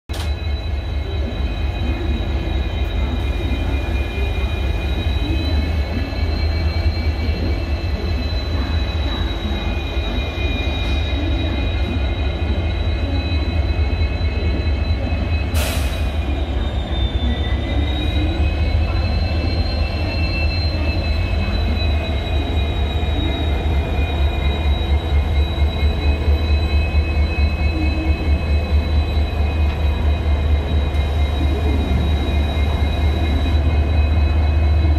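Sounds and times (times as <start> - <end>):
diesel locomotives idling: 0.1 - 34.9.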